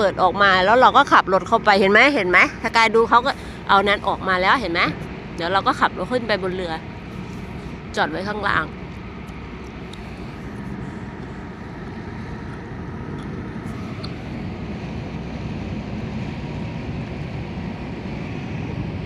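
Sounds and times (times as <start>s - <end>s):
ship engines rumbling: 0.0s - 19.0s.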